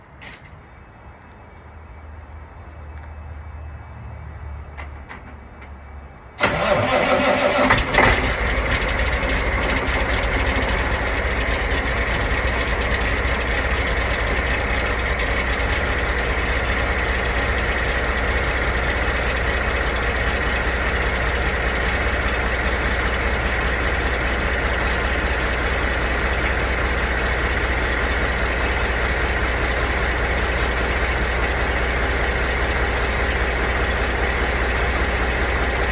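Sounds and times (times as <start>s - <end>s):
diesel engine starting: 6.4s - 35.9s.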